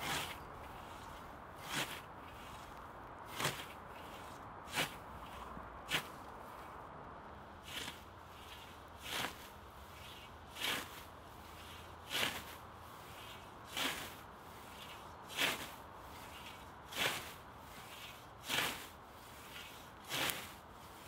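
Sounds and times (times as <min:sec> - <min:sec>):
scythe swishing through grass: 0:00.0 - 0:06.8, 0:07.6 - 0:21.0.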